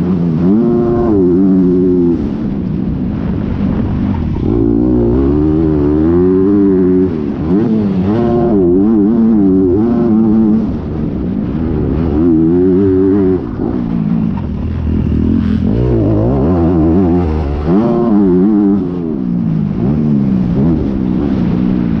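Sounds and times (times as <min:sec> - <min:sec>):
motocross engine revving: 0:00.0 - 0:22.0.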